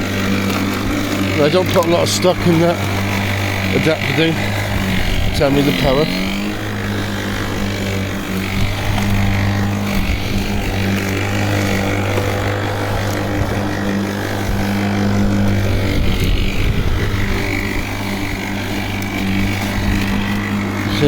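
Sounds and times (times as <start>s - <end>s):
electric lawnmower cutting grass: 0.0s - 21.0s.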